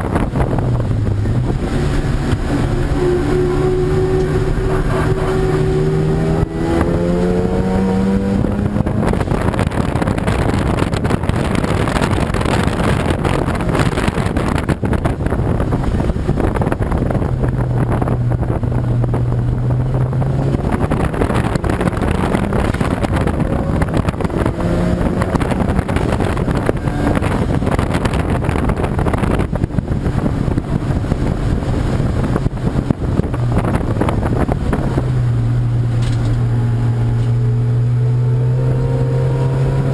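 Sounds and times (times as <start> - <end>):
race car engine running hard: 0.0 - 39.9
wind and road noise: 0.0 - 39.9.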